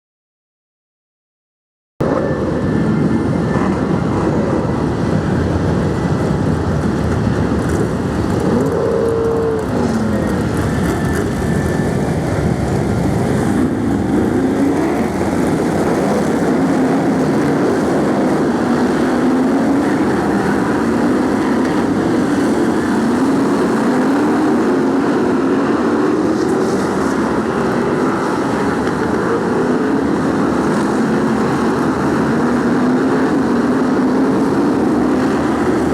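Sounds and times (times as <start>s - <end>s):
racing car engines: 2.0s - 35.9s.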